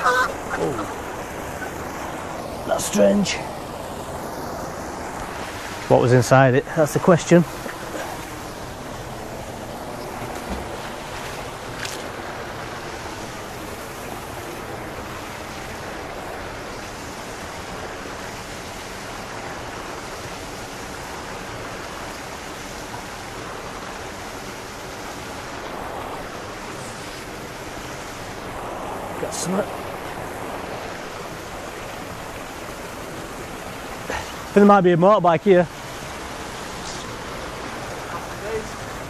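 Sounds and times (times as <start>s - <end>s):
water rushing over a spillway: 0.0s - 39.0s.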